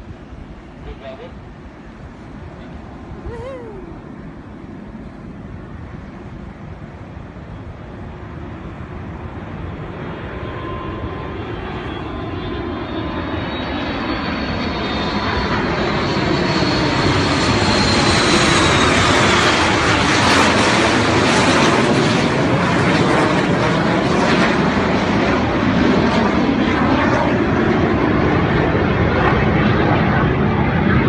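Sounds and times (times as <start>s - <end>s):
jet airliner flyover: 0.0s - 31.0s
jet engine whine falling in pitch: 0.0s - 31.0s
small jets flying: 0.0s - 31.0s.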